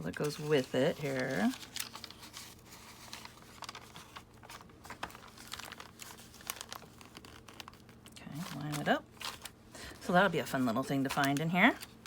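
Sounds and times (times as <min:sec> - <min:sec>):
paper and card rustling: 0:00.0 - 0:12.0.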